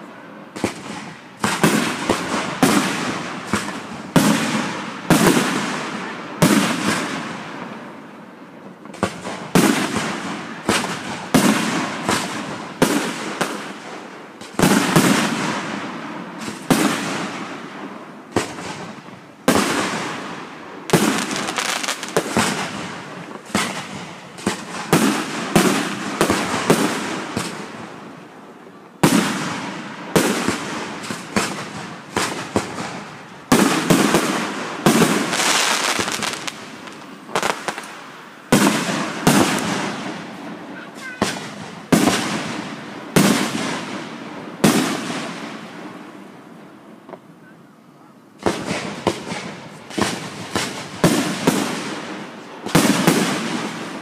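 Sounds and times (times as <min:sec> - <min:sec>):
fireworks bursting with echoing rumble: 0:00.0 - 0:47.3, 0:48.4 - 0:54.0.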